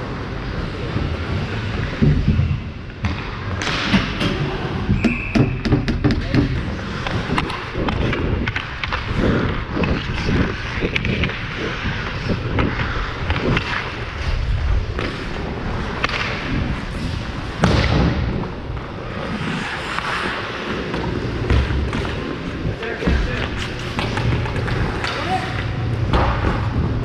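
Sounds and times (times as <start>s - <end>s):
skates scraping on ice: 0.0s - 5.1s, 5.9s - 27.0s.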